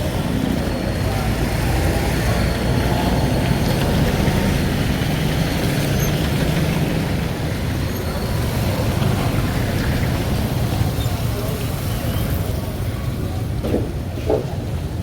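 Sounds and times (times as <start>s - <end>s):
road noise: 0.0s - 15.0s
vehicle engines running: 0.0s - 15.0s.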